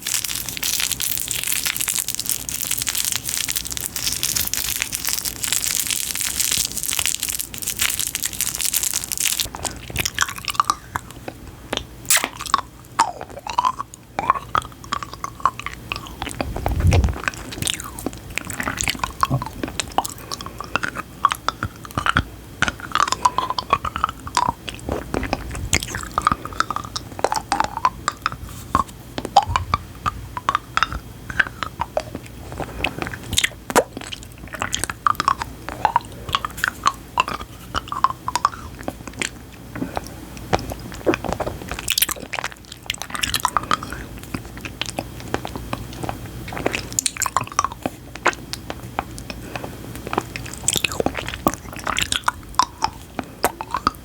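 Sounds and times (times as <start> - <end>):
wet chewing and clicking: 0.0 - 54.0.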